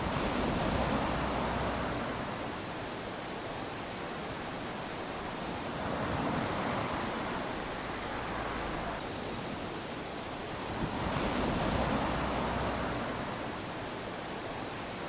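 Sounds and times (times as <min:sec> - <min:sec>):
small waves lapping on sand: 0:00.0 - 0:15.0.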